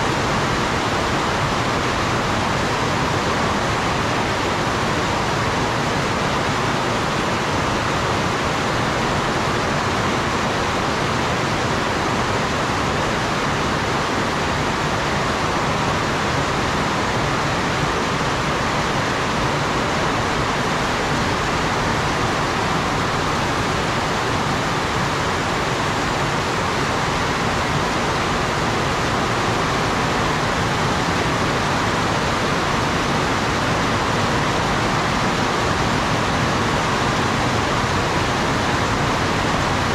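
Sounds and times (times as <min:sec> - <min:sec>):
heavy rain on foliage and roofs: 0:00.0 - 0:39.9.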